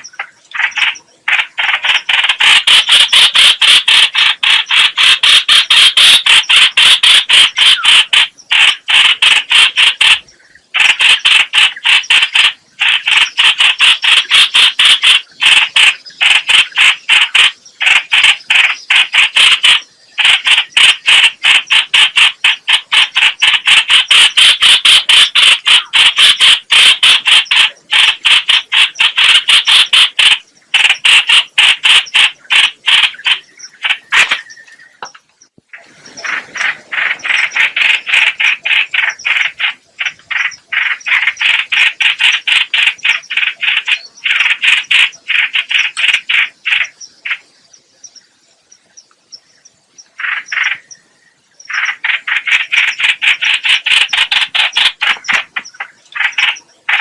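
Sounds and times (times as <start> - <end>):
bird chattering: 0.0 - 48.2, 48.9 - 57.0.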